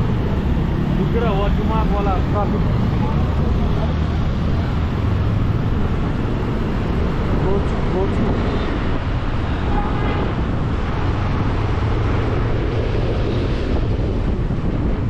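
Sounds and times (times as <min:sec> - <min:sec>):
street traffic: 0:00.0 - 0:15.0
wind rush over microphone: 0:00.0 - 0:15.0.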